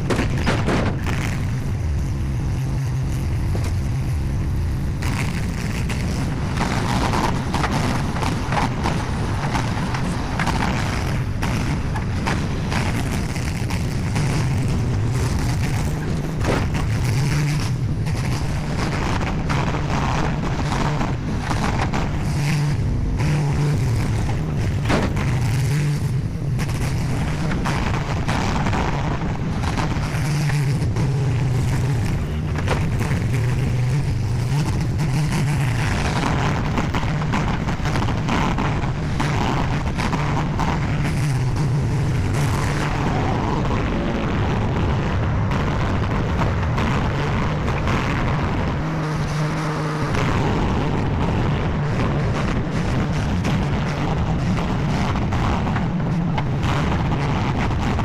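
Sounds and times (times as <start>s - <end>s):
skid steer engine running: 0.0s - 58.0s.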